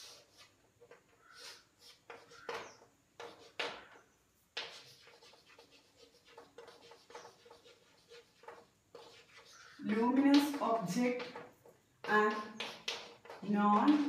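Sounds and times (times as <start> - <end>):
chalk scratching while writing: 0.0 - 14.0
chalk strokes on a chalkboard: 0.0 - 14.0.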